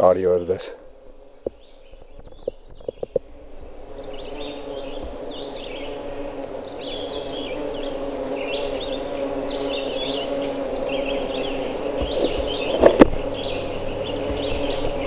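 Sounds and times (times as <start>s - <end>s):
bumblebees humming: 0.0s - 15.0s
songbirds chirping: 0.0s - 15.0s.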